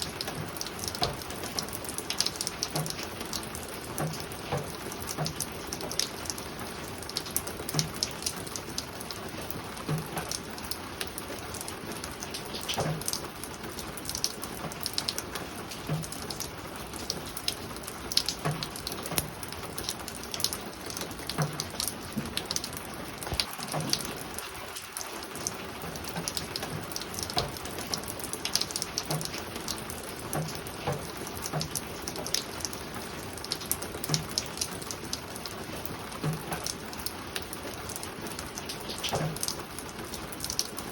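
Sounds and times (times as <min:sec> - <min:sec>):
rain pattering on a roof: 0:00.0 - 0:40.9.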